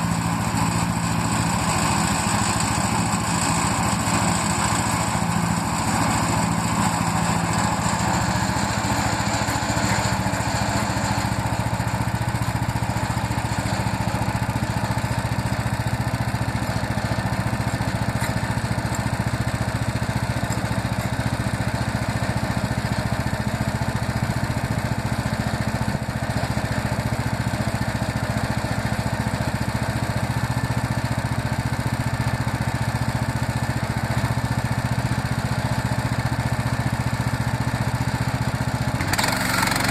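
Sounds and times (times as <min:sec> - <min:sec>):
bandsaw mill cutting log: 0:00.0 - 0:39.9.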